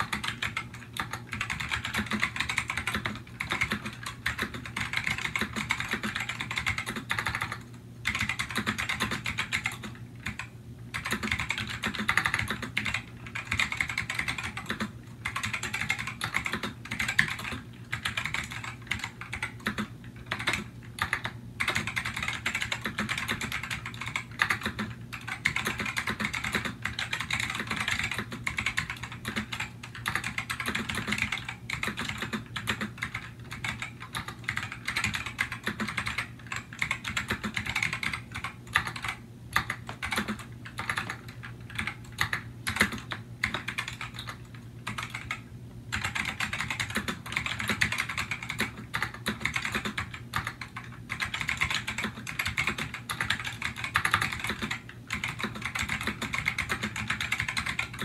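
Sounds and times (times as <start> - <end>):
fast typing on clicky keyboard: 0.0 - 58.0.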